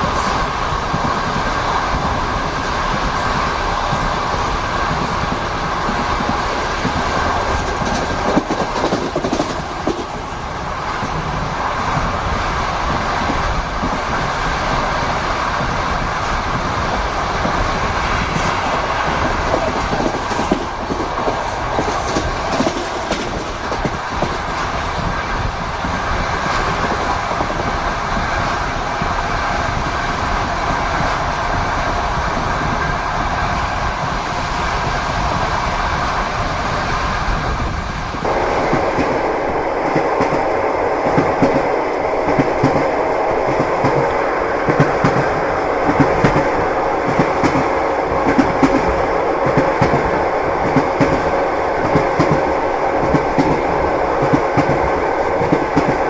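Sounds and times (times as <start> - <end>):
train carriage running noise: 0.0 - 56.0.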